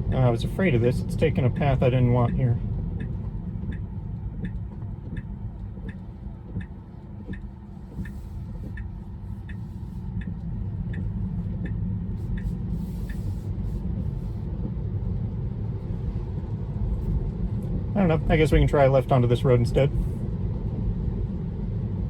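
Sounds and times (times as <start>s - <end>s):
road noise inside car: 0.0s - 22.0s
turn signal ticking: 0.0s - 22.0s.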